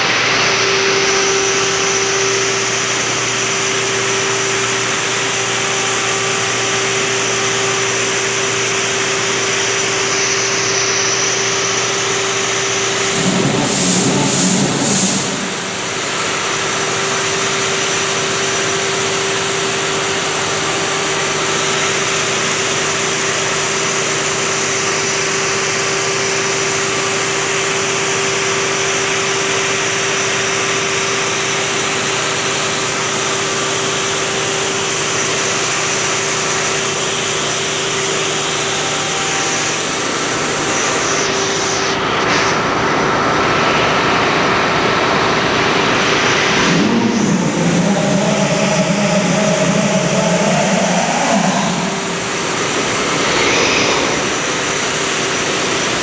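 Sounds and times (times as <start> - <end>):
diesel machinery droning: 0.0 - 56.0.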